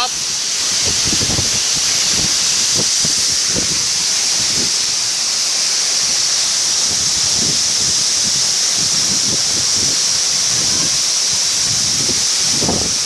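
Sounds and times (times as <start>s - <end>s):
waterfall rushing hiss: 0.0s - 13.0s.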